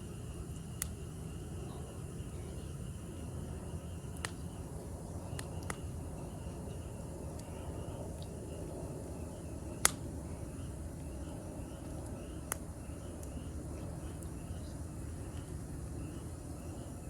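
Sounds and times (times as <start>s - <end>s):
campfire burning: 0.0s - 17.0s
insects chirping faintly: 0.0s - 17.0s.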